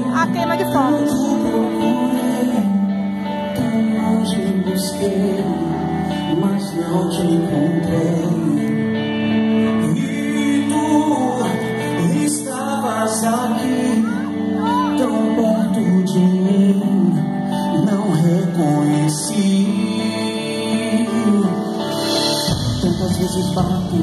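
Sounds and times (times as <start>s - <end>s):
gospel singer with band: 0.0s - 24.0s.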